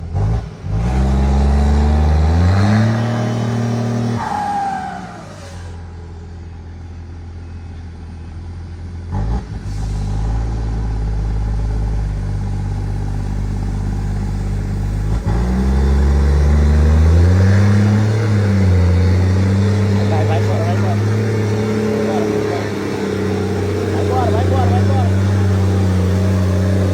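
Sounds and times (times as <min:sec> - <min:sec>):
engine idling and revving: 0:00.0 - 0:26.9.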